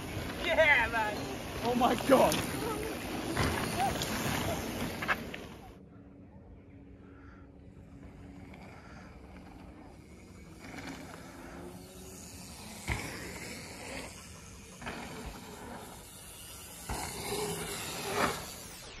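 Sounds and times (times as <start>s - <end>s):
bike tyres rolling on dirt: 0.0s - 5.8s, 7.1s - 19.0s
steady hissing outdoor noise: 0.0s - 19.0s.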